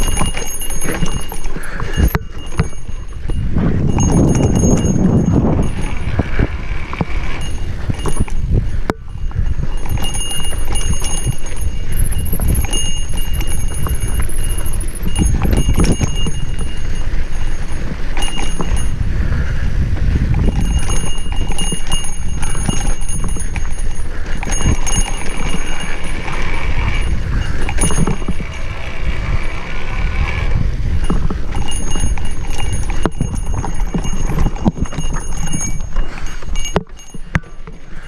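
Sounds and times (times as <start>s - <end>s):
bike rattling and knocking: 0.0s - 38.0s
bike tyres rolling over rocks: 0.0s - 38.0s
wind buffeting microphone: 0.0s - 38.0s.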